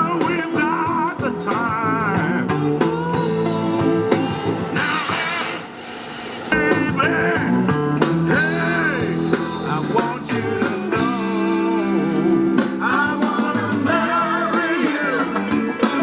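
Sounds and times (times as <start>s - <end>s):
person singing: 0.0s - 5.7s, 6.5s - 16.0s
rock music with guitar: 0.0s - 16.0s.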